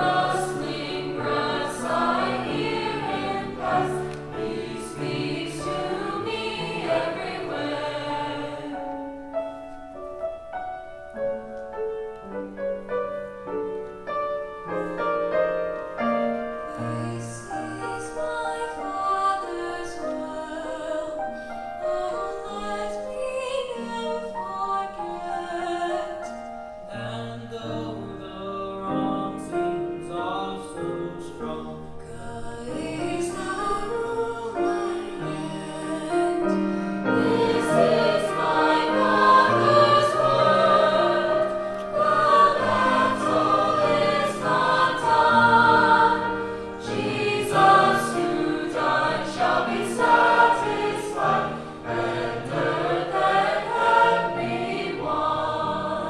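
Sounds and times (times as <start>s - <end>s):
children's choir singing: 0.0s - 9.4s, 14.6s - 56.0s.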